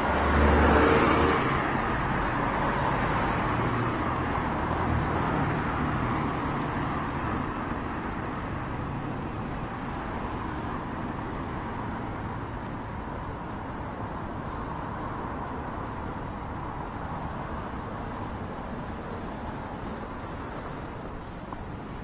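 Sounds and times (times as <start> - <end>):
cars passing: 0.0 - 22.0
hum of engines and tyres: 0.0 - 22.0.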